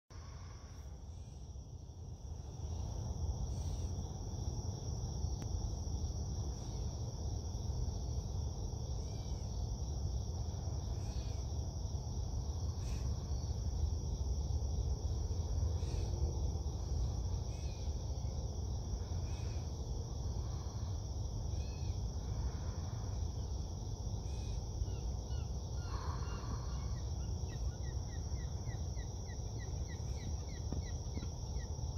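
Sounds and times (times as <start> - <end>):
high insect trill: 0.1 - 31.9.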